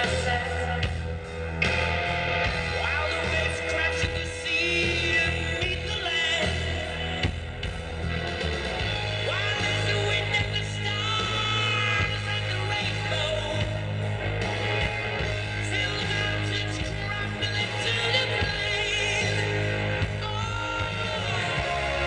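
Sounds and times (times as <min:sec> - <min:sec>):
person singing: 0:00.0 - 0:01.8, 0:02.4 - 0:07.4, 0:08.8 - 0:22.0
bass-heavy dance music: 0:00.0 - 0:22.0.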